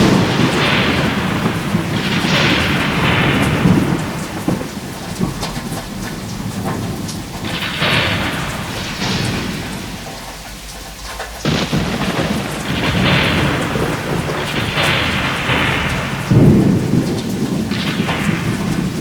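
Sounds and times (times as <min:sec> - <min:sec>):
rolling thunder: 0:00.0 - 0:19.0
steady rain: 0:00.0 - 0:19.0
thunderclap: 0:00.0 - 0:19.0.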